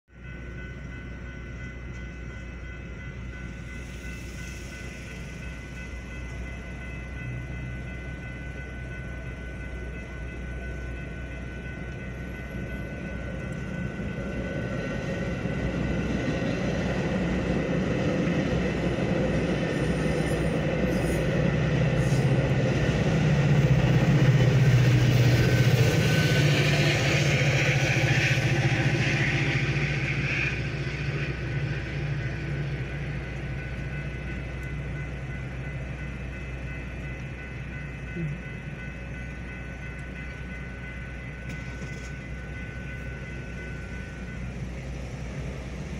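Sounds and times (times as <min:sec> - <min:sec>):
train rumble and wheel noise: 0:00.1 - 0:45.9.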